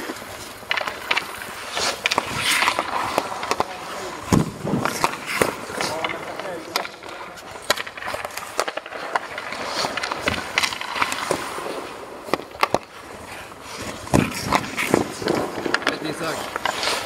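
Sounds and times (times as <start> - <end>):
skates scraping ice: 0.0 - 17.0
sticks and pucks clicking: 0.0 - 17.0.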